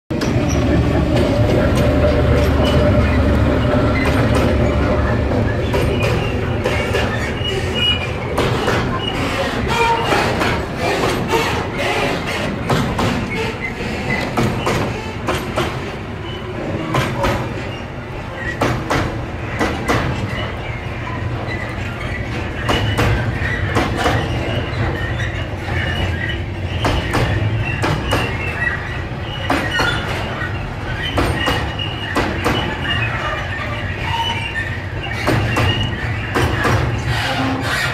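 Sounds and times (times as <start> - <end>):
diesel locomotive engine rumbling: 0.1 - 37.9
train wheels clicking over rail joints: 0.1 - 37.9
wheel squeal: 0.1 - 37.9.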